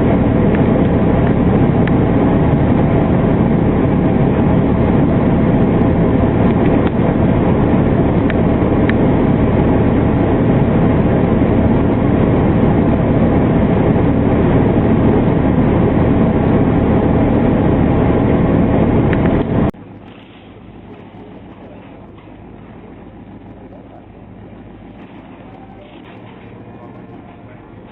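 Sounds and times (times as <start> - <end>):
quiet steady hum: 0.0 - 27.9
vehicle running noise: 0.0 - 27.9.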